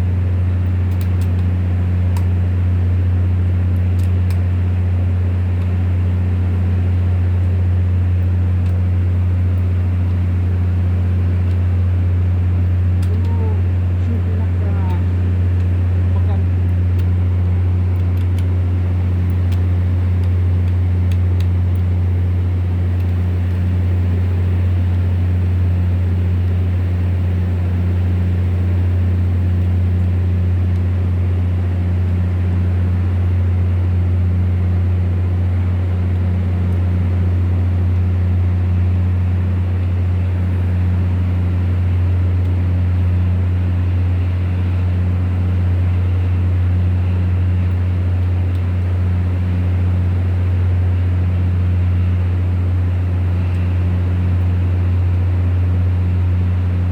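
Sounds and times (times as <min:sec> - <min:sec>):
diesel generator engine running: 0:00.0 - 0:56.9.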